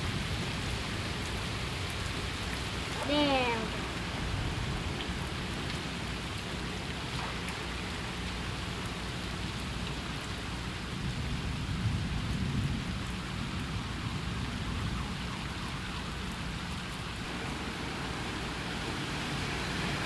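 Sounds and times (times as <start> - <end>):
light rain hissing on street: 0.0 - 20.0.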